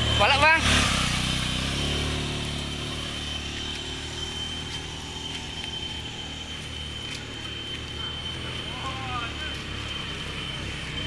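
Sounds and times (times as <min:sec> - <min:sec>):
motorcycle engine humming: 0:00.0 - 0:11.0
steady high-pitched tone: 0:00.0 - 0:11.0.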